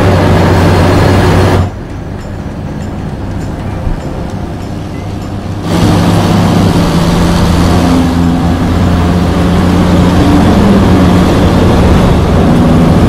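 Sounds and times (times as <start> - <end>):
vehicle engine running hard: 0.0 - 13.0.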